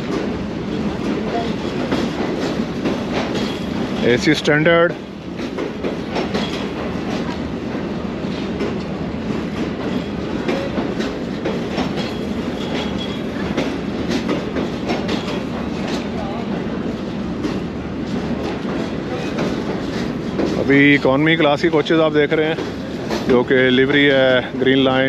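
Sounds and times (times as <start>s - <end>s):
railway machinery rumbling: 0.0s - 25.0s.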